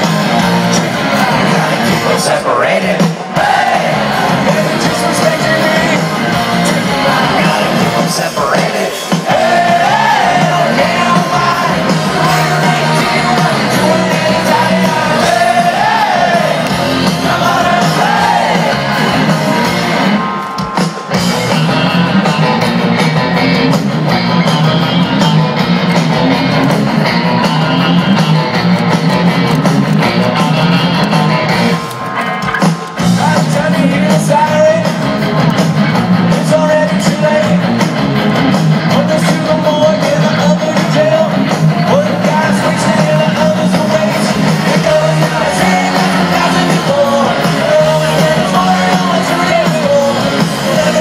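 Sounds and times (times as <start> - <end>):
lead singer: 0.0 - 22.6, 31.8 - 35.6, 36.2 - 51.0
distorted electric guitars: 0.0 - 51.0
punk rock band playing live: 0.0 - 51.0.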